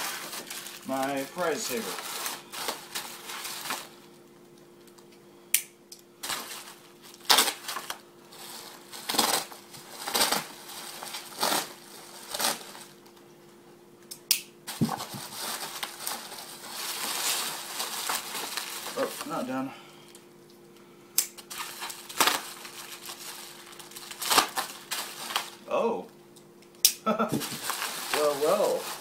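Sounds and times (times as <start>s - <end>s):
bubble wrap crinkling: 0.0s - 5.0s, 6.2s - 13.3s, 14.7s - 20.2s, 21.3s - 25.7s, 27.1s - 29.0s.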